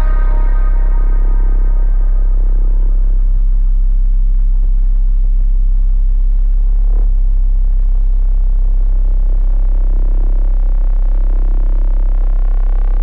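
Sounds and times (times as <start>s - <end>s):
deep synthesizer bass drone: 0.0s - 13.0s.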